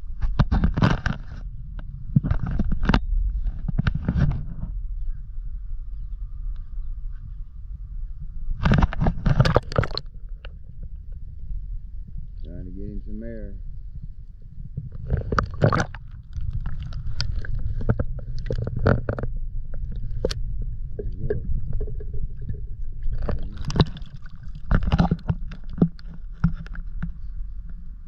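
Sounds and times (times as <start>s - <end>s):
underwater knocks and gurgles: 0.0s - 5.0s, 6.3s - 12.4s, 13.6s - 28.0s
underwater rumble: 0.0s - 28.0s.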